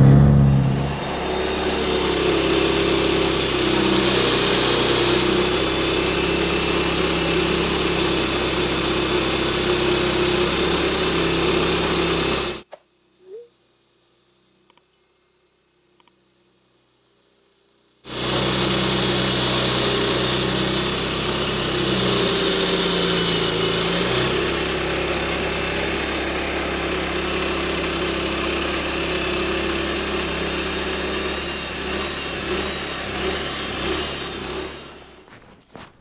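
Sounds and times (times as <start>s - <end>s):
engine running: 0.0s - 12.7s, 17.6s - 35.9s.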